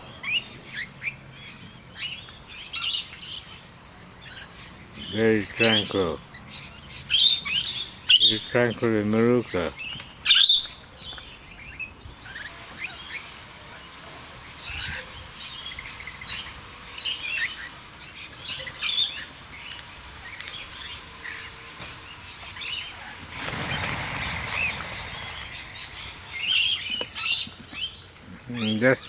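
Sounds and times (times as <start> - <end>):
birds chirping and squawking: 0.0 - 29.0.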